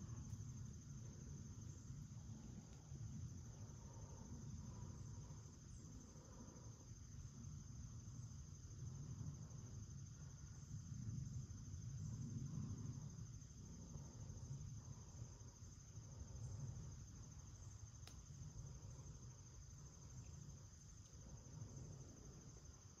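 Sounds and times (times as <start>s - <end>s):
insect chorus trilling: 0.0s - 23.0s.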